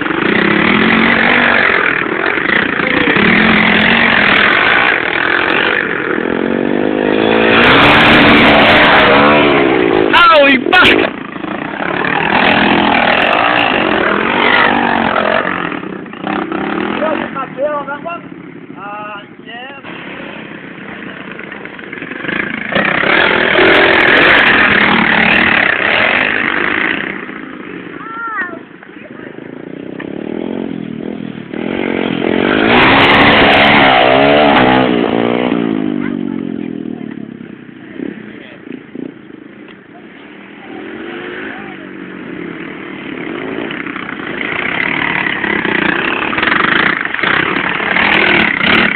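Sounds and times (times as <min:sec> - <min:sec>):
pit bike engine revving: 0:00.0 - 0:48.9.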